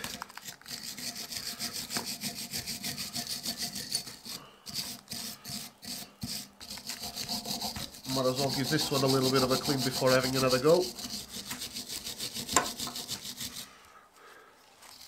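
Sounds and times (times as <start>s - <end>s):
wire brush scrubbing metal: 0.0s - 13.8s, 14.8s - 15.0s.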